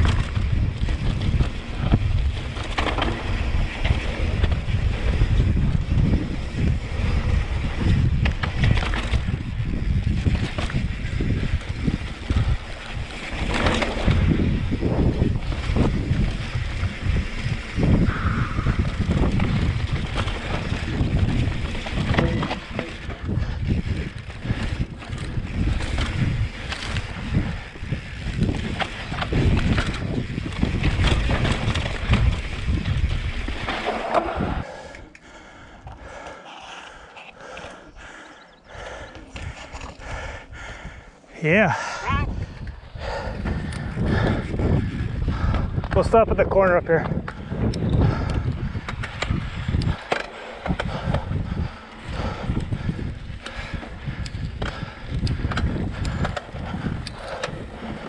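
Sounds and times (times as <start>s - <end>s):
bike knocking and rattling: 0.0s - 58.0s
bike tyres rumbling on dirt: 0.0s - 58.0s
wind buffeting microphone: 0.0s - 58.0s.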